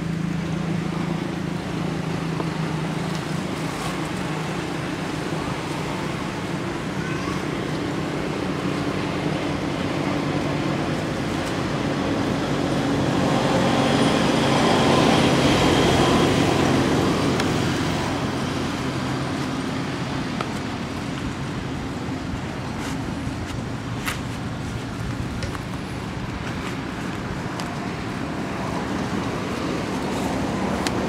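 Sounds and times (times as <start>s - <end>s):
engine hum: 0.0s - 31.0s.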